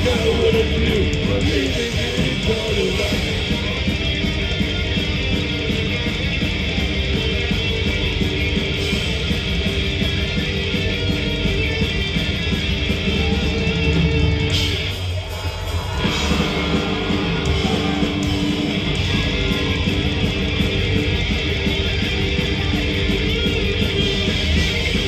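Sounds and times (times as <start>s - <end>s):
electric guitar: 0.0s - 25.0s
heavy metal band playing live: 0.0s - 25.0s.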